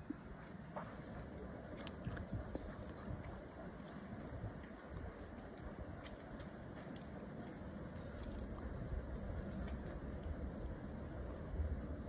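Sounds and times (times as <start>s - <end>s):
light ticks: 1.4s - 11.9s.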